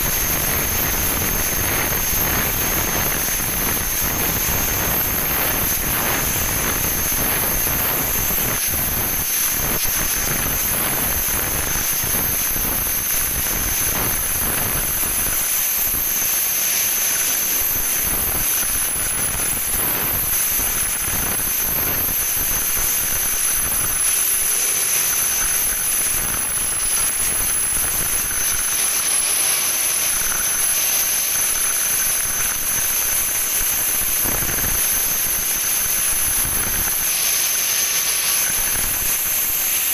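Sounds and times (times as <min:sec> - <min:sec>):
high-pitched whine: 0:00.0 - 0:39.9
industrial machinery noise: 0:00.0 - 0:39.9.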